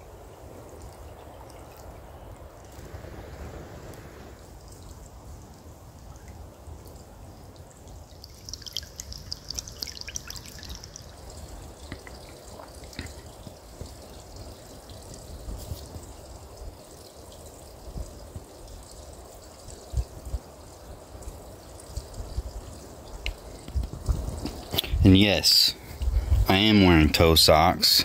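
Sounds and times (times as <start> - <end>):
stream trickling over rocks: 0.0 - 28.0
water drips and splashes: 0.0 - 28.0.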